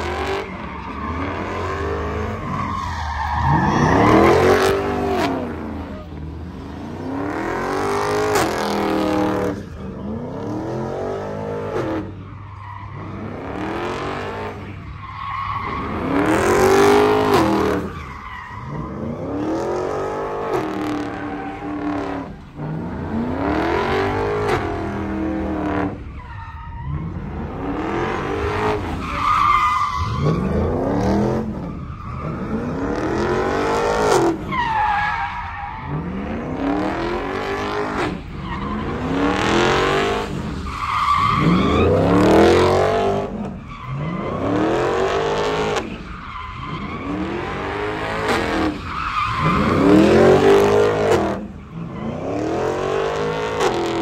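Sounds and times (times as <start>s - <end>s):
pickup engine revving: 0.0s - 26.1s, 26.8s - 54.0s
tyres squealing on pavement: 0.0s - 54.0s.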